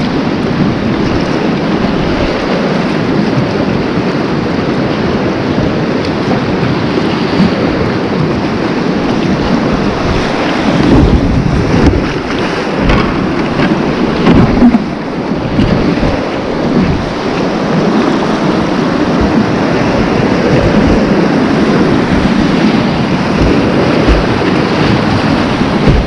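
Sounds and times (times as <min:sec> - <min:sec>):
rushing whitewater: 0:00.0 - 0:26.0
water splashing against boat: 0:00.0 - 0:26.0.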